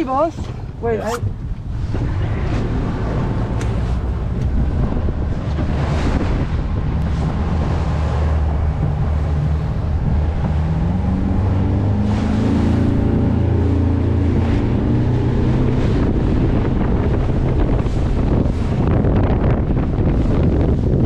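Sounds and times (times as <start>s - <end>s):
boat engine running hard: 0.0s - 21.0s
water rushing past hull: 0.0s - 21.0s
wind buffeting microphone: 0.0s - 21.0s.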